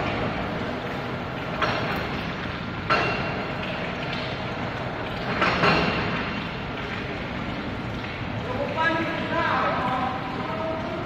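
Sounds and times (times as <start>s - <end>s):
induction furnace industrial noise: 0.0s - 11.0s.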